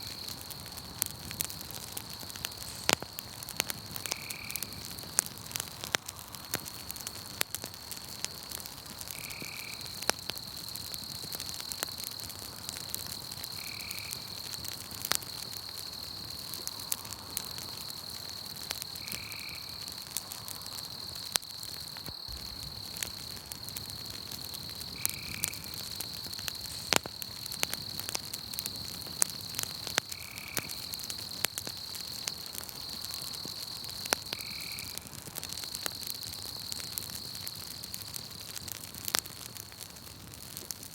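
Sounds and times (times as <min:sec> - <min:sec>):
crickets trilling: 0:00.0 - 0:40.8
campfire crackling and popping: 0:00.0 - 0:40.9.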